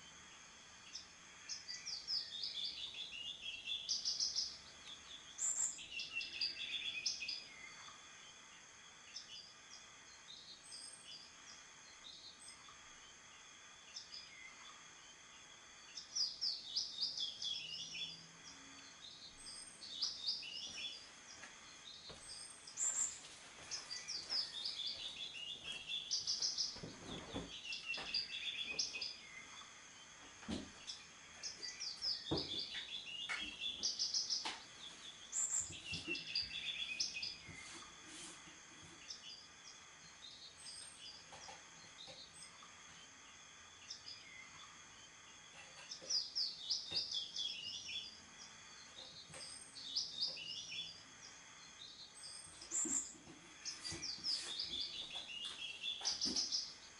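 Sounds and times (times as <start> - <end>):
faint high hum: 0.0 - 56.9
songbird singing: 0.0 - 56.9.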